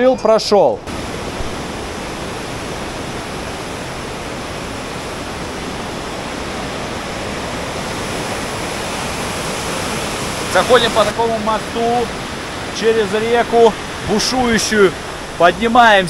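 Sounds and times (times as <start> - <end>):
river rushing over rapids: 0.9 - 16.0.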